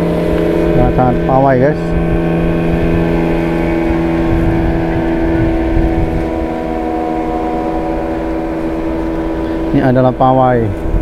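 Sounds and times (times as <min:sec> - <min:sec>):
motorboat engine passing: 0:00.0 - 0:11.0.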